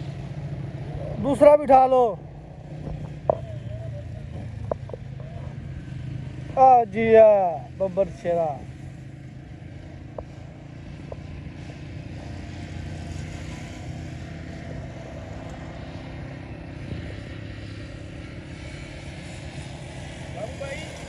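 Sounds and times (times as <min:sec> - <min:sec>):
distant engine drone: 0:00.0 - 0:21.0.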